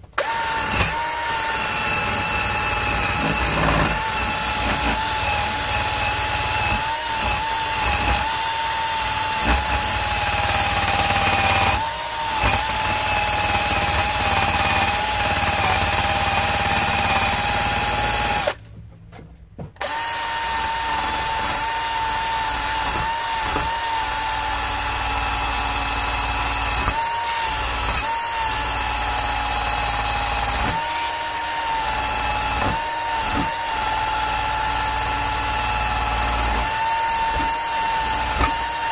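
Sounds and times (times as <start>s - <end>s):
power drill motor whine: 0.1s - 18.6s, 19.8s - 38.9s.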